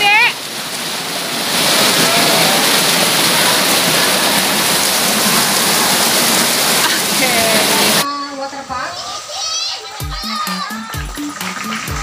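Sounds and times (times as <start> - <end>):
water rushing down a slide: 0.0 - 8.0, 9.0 - 12.0.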